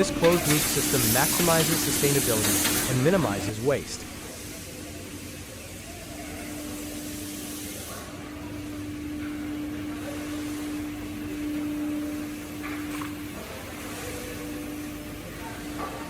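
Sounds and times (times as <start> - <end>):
industrial machinery humming: 0.0 - 16.0.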